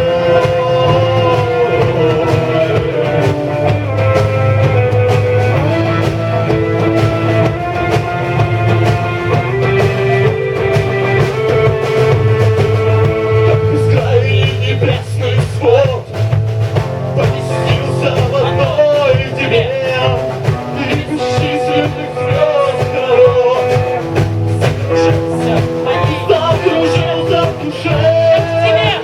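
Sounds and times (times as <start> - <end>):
bass guitar: 0.0 - 29.0
drums: 0.0 - 29.0
electric guitar chords: 0.0 - 29.0
keyboard chords: 0.0 - 29.0
lead vocal singing: 0.0 - 29.0.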